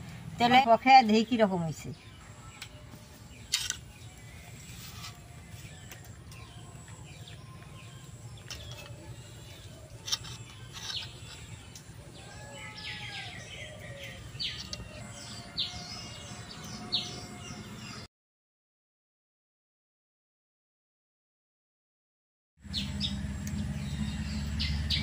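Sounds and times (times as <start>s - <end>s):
birds chirping: 0.0s - 18.1s, 22.6s - 25.0s.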